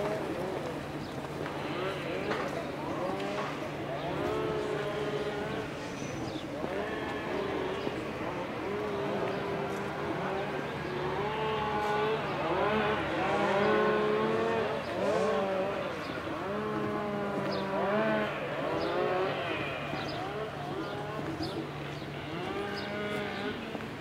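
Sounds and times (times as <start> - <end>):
people talking: 0.0 - 23.9.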